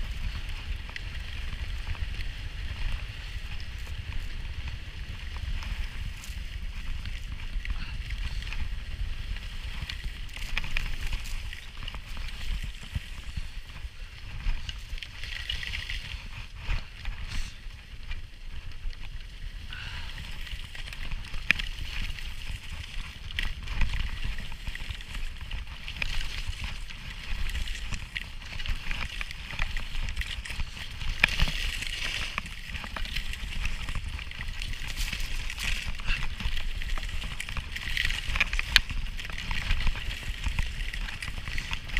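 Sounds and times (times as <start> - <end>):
skis scraping on snow: 0.0 - 41.9.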